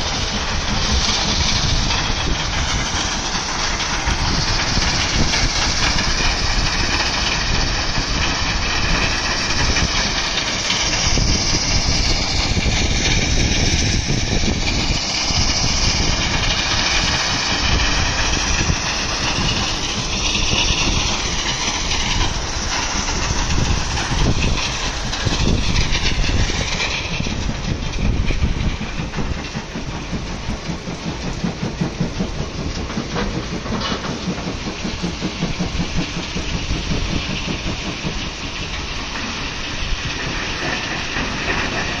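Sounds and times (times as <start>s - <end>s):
rattle of stone: 0.0s - 42.0s
stone crusher mechanical rumble: 0.0s - 42.0s.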